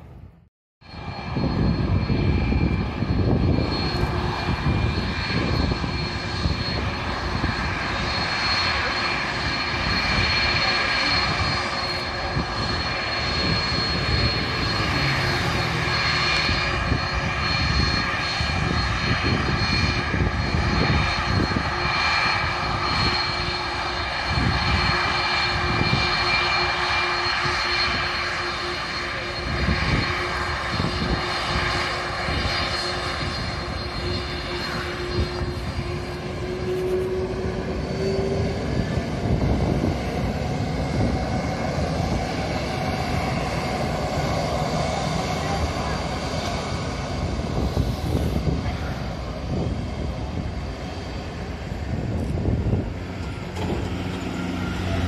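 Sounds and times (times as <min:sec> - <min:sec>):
high engine whine: 0:00.0 - 0:55.0
jet engines roaring: 0:00.0 - 0:55.0
wind buffeting microphone: 0:01.0 - 0:55.0.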